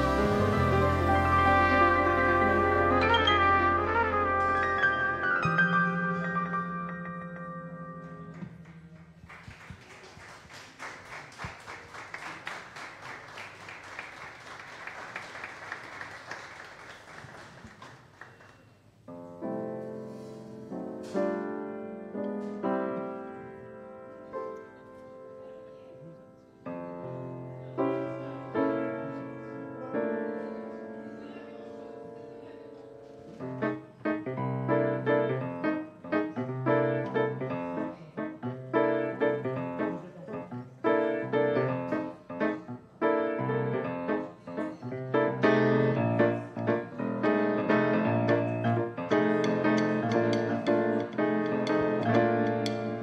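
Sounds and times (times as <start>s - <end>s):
jazz piano: 0.0s - 9.3s, 19.1s - 53.0s.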